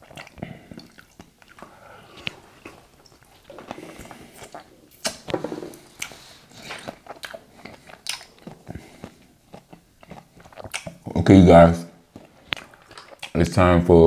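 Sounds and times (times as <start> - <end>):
person chewing: 0.0 - 11.3, 12.0 - 13.4.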